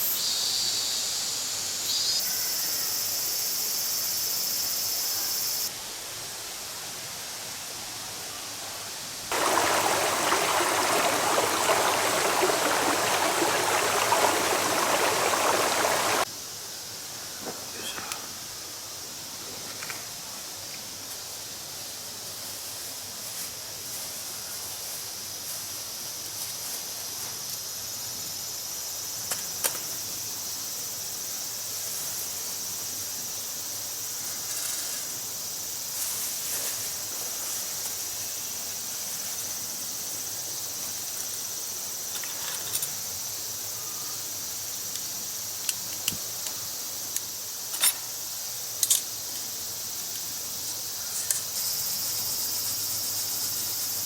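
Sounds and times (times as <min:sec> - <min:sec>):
insects chirring: 0:00.0 - 0:05.7, 0:09.3 - 0:21.9, 0:23.6 - 0:54.0.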